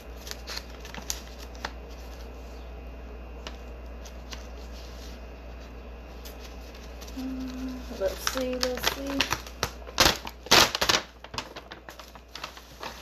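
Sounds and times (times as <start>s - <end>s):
paper bag crinkling: 0.0s - 2.5s, 3.5s - 13.0s.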